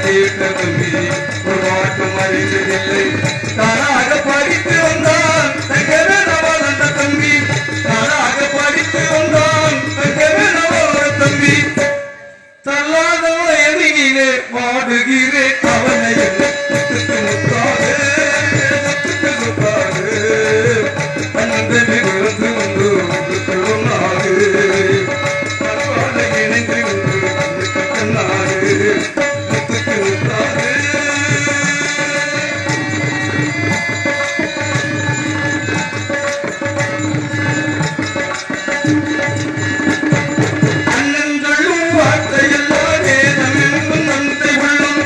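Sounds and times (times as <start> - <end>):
hand drums playing rhythm: 0.0 - 12.0, 15.6 - 45.0.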